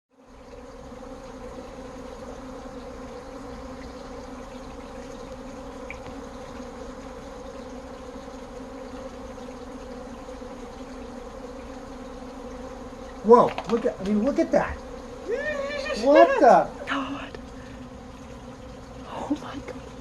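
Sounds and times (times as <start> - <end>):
bee swarm buzzing: 0.1 - 20.0.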